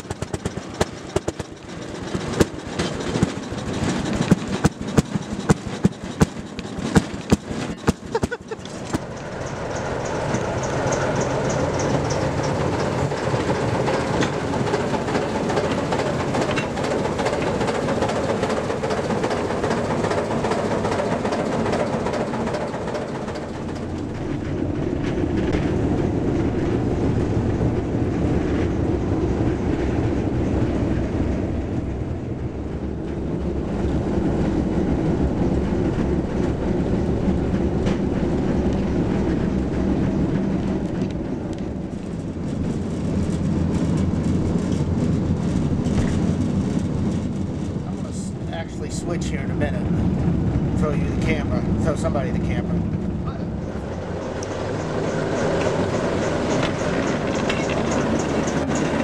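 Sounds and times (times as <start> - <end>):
diesel locomotive running: 0.0 - 59.0
rail car clattering over joints: 0.0 - 59.0.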